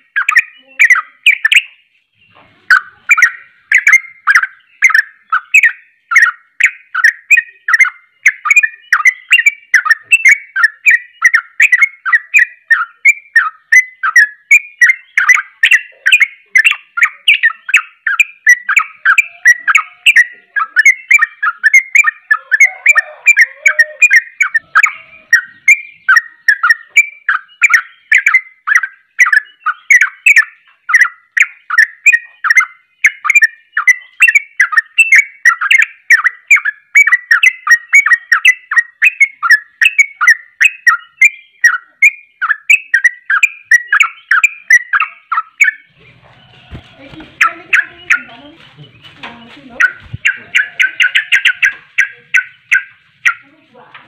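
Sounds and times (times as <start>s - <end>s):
bulbul singing rapid chirps: 0.0s - 53.9s.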